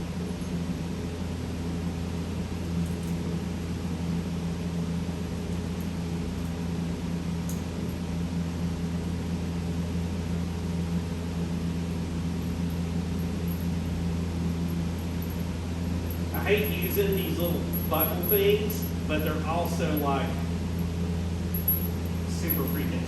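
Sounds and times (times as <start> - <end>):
heater fan rushing: 0.0 - 23.0
heater low hum: 0.0 - 23.0.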